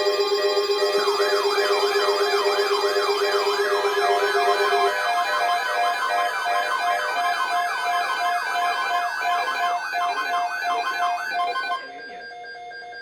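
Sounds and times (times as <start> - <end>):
sweeping siren-like alert tone: 0.0 - 11.8.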